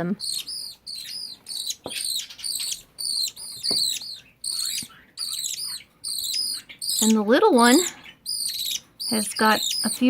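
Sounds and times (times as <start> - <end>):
budgerigar chicks chirping: 0.0 - 10.0.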